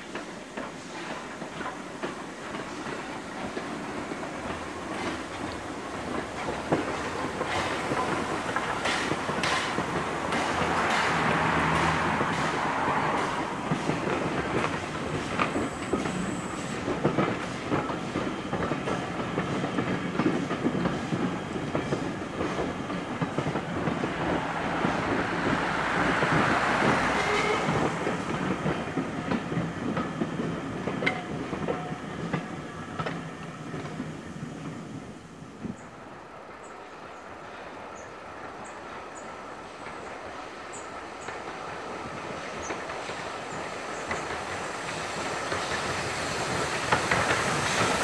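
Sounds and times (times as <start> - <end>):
train wheels clacking over rail joints: 0.0 - 35.8, 38.7 - 48.0.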